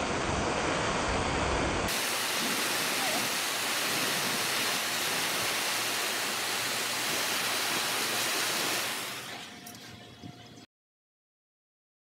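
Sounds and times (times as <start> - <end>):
gas torch flame hissing: 0.0 - 9.8.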